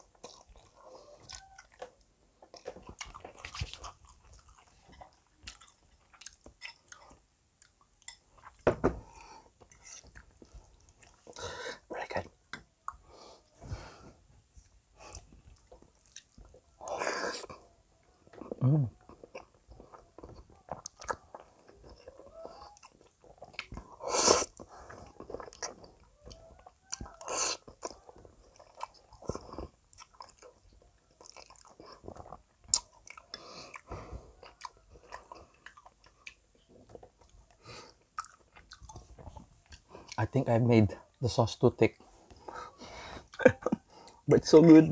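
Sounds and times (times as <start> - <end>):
close chewing with mouth clicks: 0.0 - 8.6, 9.5 - 11.5, 14.6 - 40.4.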